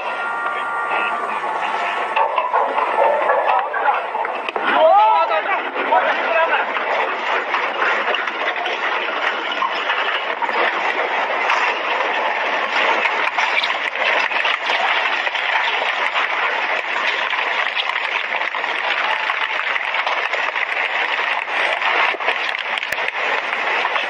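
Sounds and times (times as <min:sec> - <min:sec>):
landslide rushing down slope: 0:00.0 - 0:24.0.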